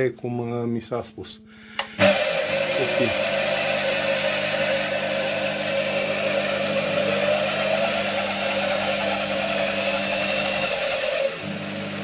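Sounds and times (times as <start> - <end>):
wood lathe motor hum and whine: 1.8 - 12.0.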